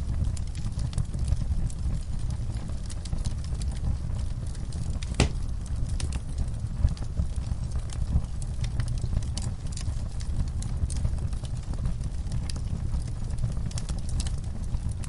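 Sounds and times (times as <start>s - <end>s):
fire crackles and pops: 0.0s - 15.0s
wood fire burning: 0.0s - 15.0s.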